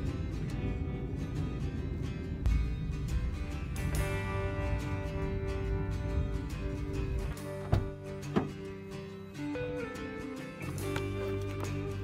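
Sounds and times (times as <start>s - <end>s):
strummed guitar music with beat: 0.0s - 12.0s.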